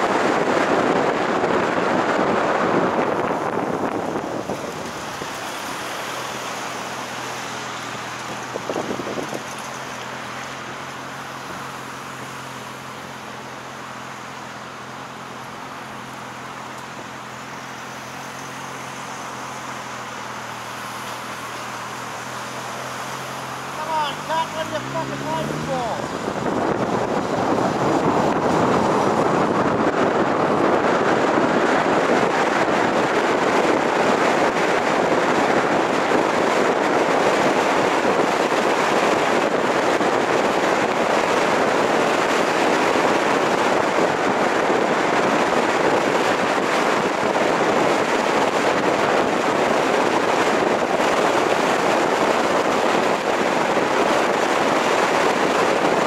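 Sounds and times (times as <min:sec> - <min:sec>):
wind rushing: 0:00.0 - 0:09.5, 0:17.4 - 0:56.0
car tyre noise: 0:00.0 - 0:56.0.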